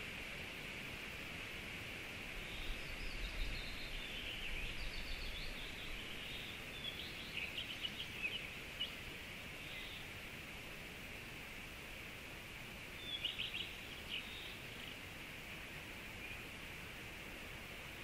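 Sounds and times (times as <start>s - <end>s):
songbirds chirping: 0.0s - 18.0s
steady hiss: 0.0s - 18.0s.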